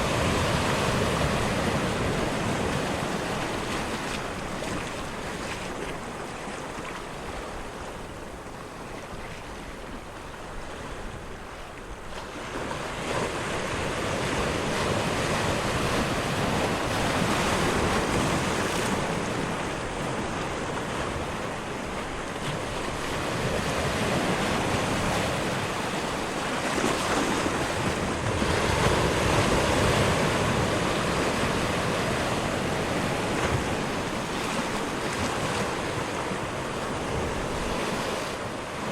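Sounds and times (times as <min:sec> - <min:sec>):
ocean waves washing in: 0:00.0 - 0:08.8, 0:09.4 - 0:38.9.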